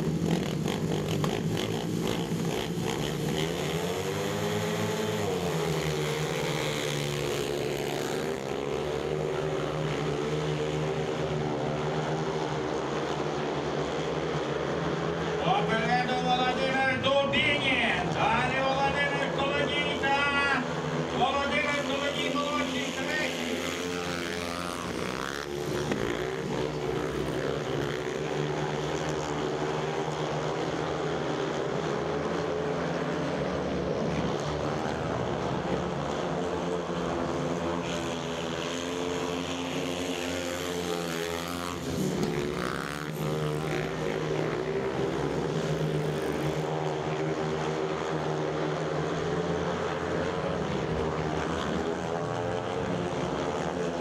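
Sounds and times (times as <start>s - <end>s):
motorcycles racing: 0.0s - 54.0s.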